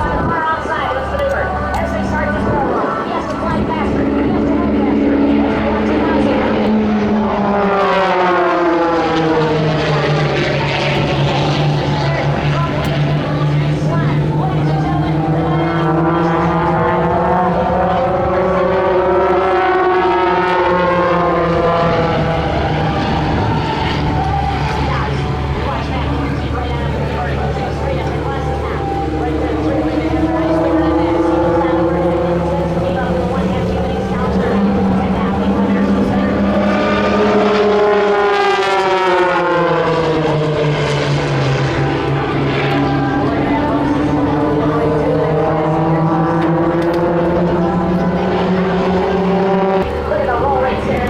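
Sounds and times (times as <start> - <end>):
propeller airplane engine droning: 0.0 - 51.0.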